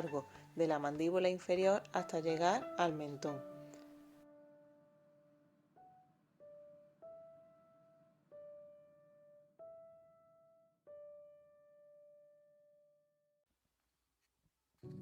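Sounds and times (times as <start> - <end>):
slow piano notes: 0.0 - 12.8.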